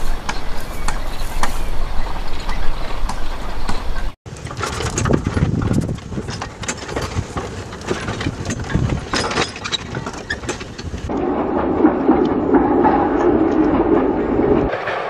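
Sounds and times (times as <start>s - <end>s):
locomotive running rumble: 0.0s - 15.0s
steam locomotive clanking: 0.0s - 15.0s.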